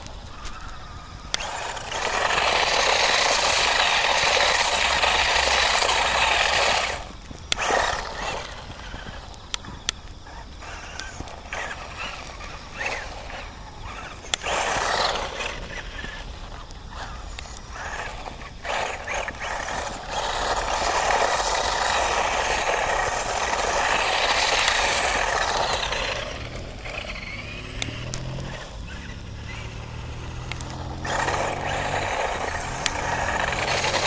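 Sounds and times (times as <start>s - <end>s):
toy car motor whine: 0.0s - 34.0s
tyres spinning on dirt: 0.0s - 34.0s.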